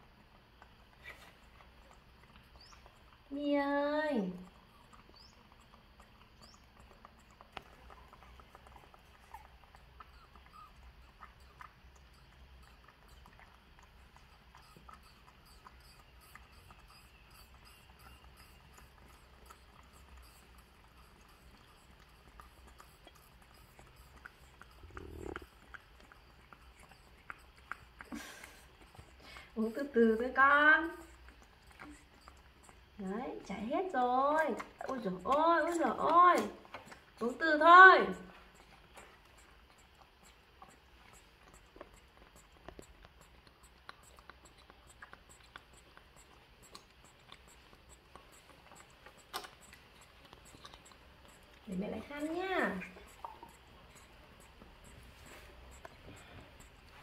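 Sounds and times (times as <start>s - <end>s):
monkeys slurping through straws: 0.0s - 57.0s.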